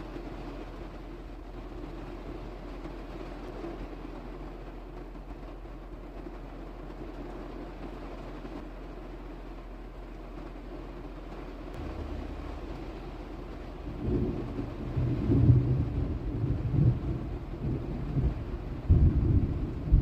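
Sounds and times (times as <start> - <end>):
steady low hum: 0.0 - 20.0
uneven low rumbling in gusts: 0.0 - 20.0.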